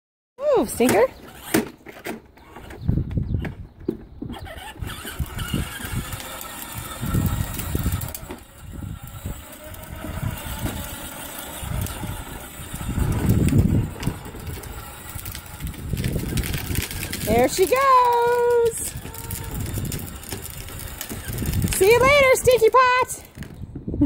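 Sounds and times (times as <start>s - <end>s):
wheels rumbling on concrete: 0.4s - 24.0s
electric motor whining: 4.3s - 23.6s.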